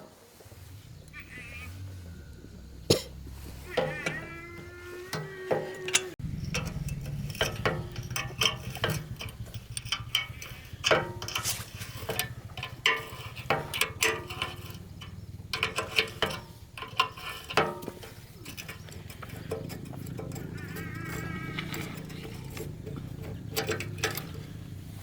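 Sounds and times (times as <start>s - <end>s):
steady low hum: 0.4s - 25.0s
hand tools clicking on metal: 1.0s - 25.0s.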